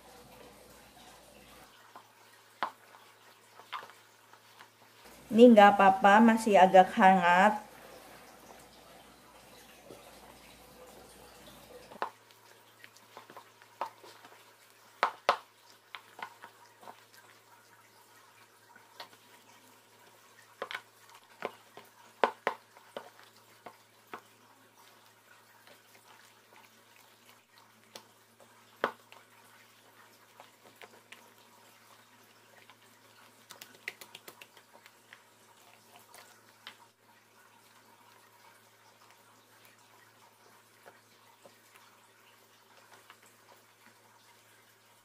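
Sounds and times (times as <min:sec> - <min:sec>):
wet batter squelching: 0:00.0 - 0:45.0.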